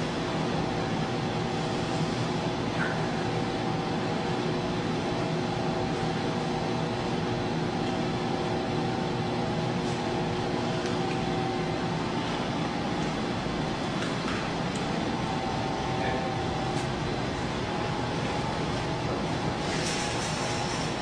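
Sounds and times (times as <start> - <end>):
mechanical hum and hiss: 0.0 - 21.0.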